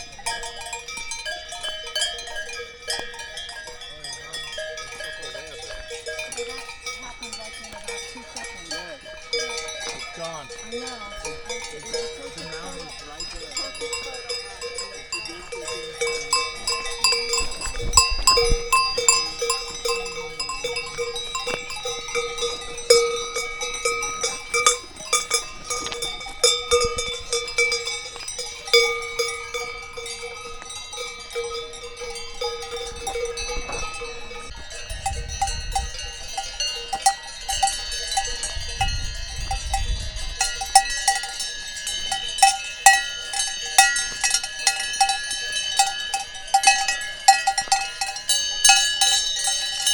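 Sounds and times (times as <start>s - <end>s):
cowbells clanking: 0.0s - 49.9s.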